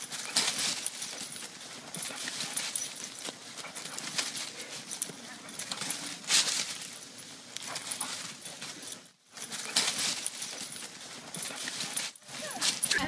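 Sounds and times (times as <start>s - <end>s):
dog paws running on dry leaves: 0.0s - 13.0s.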